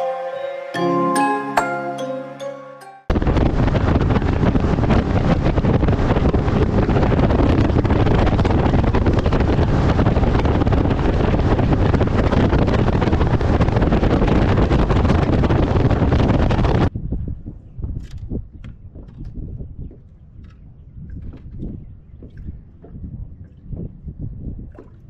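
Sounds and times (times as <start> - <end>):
boat rumbling over water: 3.1 - 17.0, 18.4 - 25.0
wind buffeting microphone: 3.1 - 25.0.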